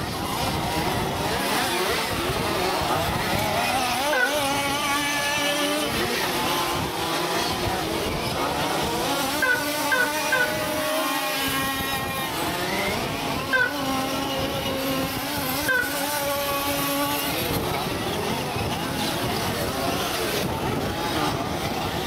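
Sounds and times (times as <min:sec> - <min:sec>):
model buggy engines revving: 0:00.0 - 0:22.0.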